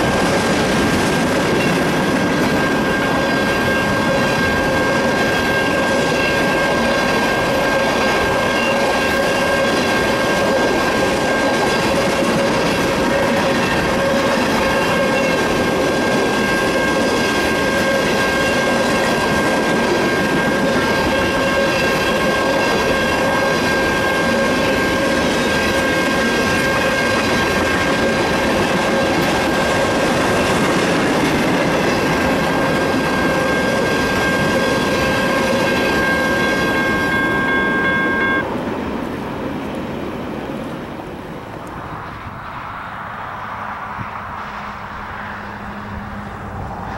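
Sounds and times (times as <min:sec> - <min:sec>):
train wheels clattering: 0:00.0 - 0:37.8
crossing bell ringing: 0:00.0 - 0:38.6.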